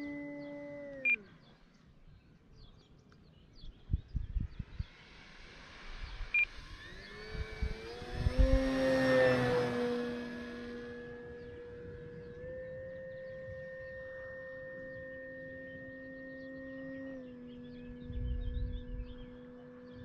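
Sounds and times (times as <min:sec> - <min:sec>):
electric motor and propeller whine: 0:00.0 - 0:01.5, 0:03.7 - 0:20.0.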